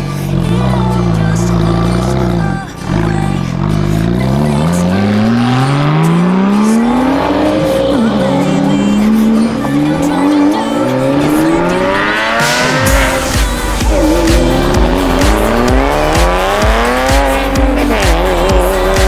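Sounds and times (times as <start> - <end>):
car engines accelerating: 0.0 - 19.0.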